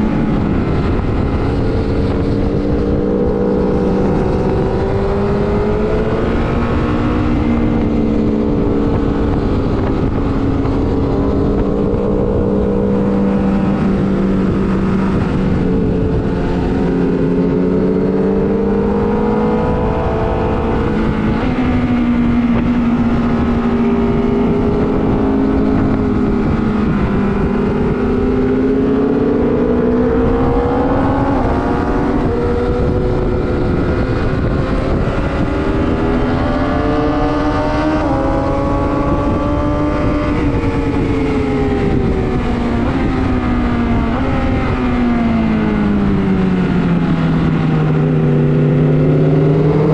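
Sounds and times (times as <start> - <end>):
motorcycle engine at speed: 0.0 - 49.9
wind rushing on microphone: 0.0 - 49.9.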